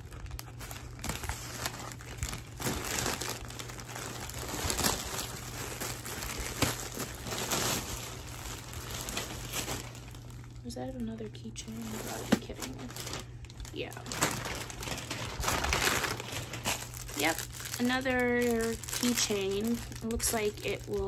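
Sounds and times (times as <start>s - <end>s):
packaging crinkling: 0.0s - 10.6s, 11.6s - 21.0s.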